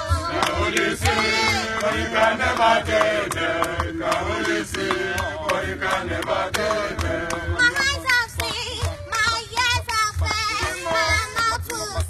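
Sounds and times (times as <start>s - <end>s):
group chanting wordless song: 0.0s - 12.0s
steady drum beat: 0.0s - 12.0s
hand claps: 0.1s - 12.0s.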